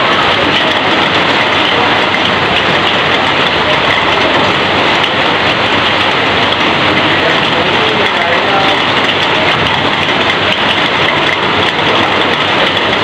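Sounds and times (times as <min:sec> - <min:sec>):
heavy rain on corrugated roof: 0:00.0 - 0:13.0.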